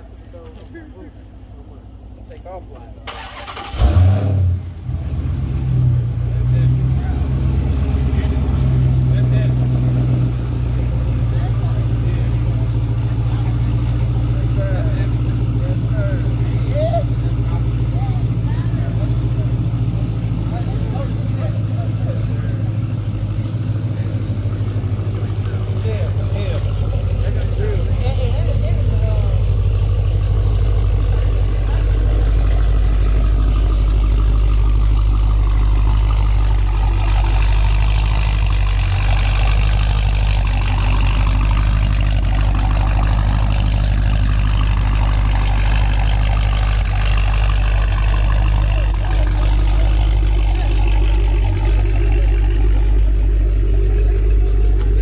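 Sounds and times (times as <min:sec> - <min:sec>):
car engine idling deeply: 0:00.0 - 0:55.0
faint voices: 0:06.3 - 0:55.0.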